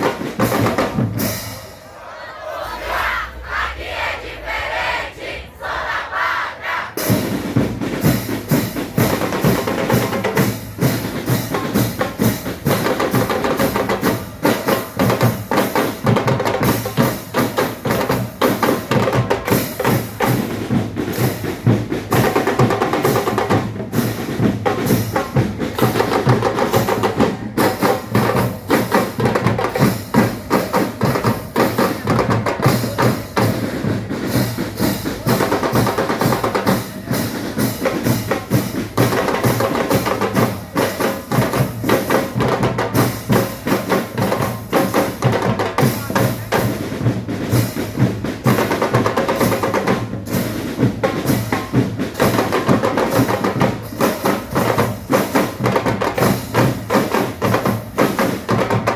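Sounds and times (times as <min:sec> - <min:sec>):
drums in a busy rhythm: 0:00.0 - 0:01.9, 0:06.9 - 0:58.9.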